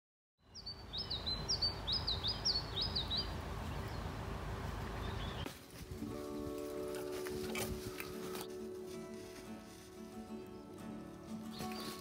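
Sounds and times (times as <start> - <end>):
songbird singing: 0.4 - 9.8, 10.4 - 12.0.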